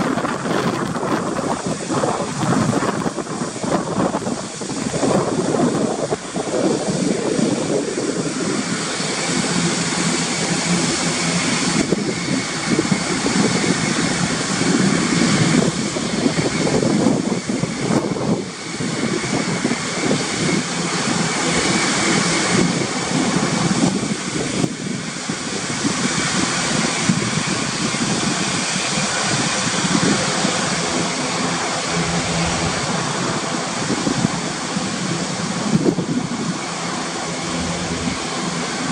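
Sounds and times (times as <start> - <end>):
turboprop engines and propellers: 0.0 - 38.9.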